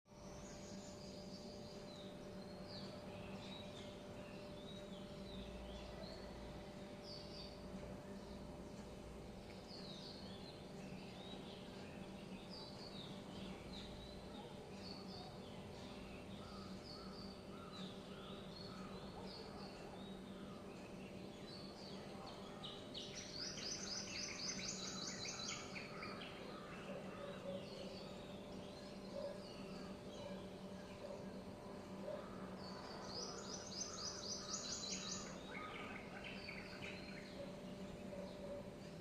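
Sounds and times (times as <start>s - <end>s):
birds chirping: 0.1s - 39.0s
steady low hum: 0.1s - 39.0s.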